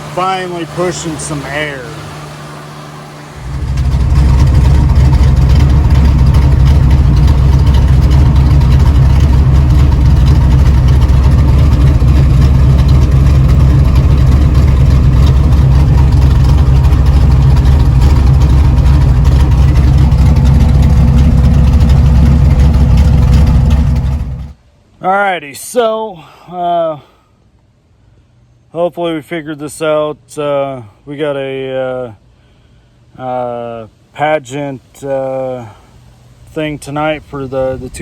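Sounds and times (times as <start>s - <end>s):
cooling fans blowing: 0.0s - 24.8s, 30.3s - 38.0s.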